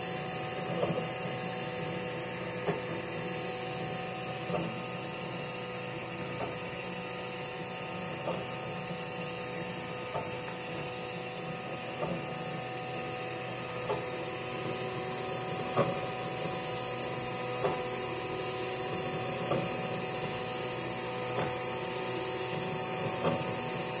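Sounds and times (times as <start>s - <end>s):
stepper motors whining: 0.0s - 24.0s.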